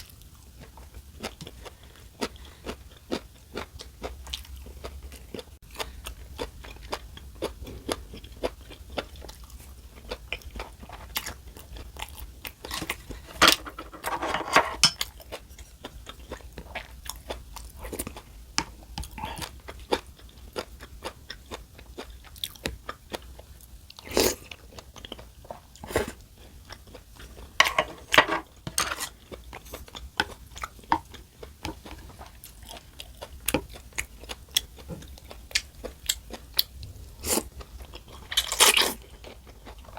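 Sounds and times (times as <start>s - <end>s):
chewing and crunching food: 0.0s - 14.1s, 14.8s - 39.9s.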